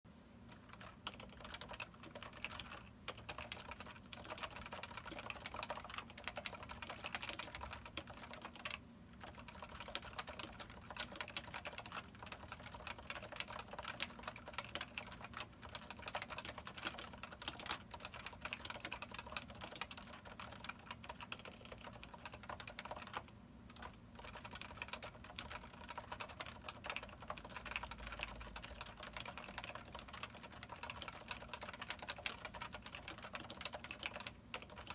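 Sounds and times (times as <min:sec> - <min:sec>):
fast typing on keyboard: 0:00.5 - 0:34.9.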